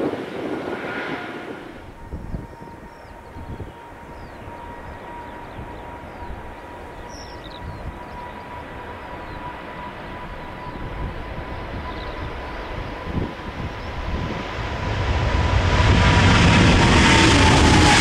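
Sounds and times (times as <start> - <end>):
jet engines whining: 0.0 - 18.0
wind buffeting microphone: 0.0 - 18.0.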